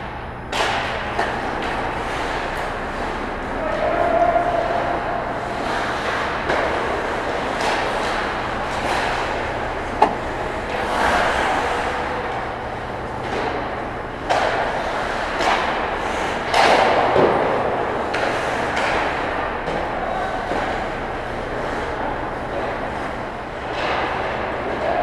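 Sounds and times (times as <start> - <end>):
low steady hum: 0.0 - 24.8
hockey sticks clattering: 0.5 - 12.4, 13.1 - 25.0.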